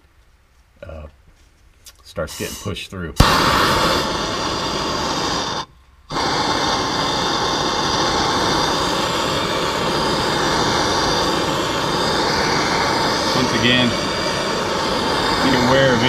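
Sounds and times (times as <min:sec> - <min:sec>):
gas torch hissing: 0:02.2 - 0:16.0.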